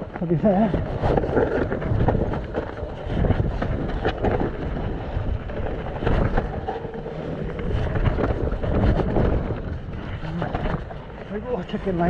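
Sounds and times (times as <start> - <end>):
bike rattling and clicking: 0.0 - 12.0
wind buffeting microphone: 0.0 - 12.0
bike tyres through mud: 0.1 - 12.0.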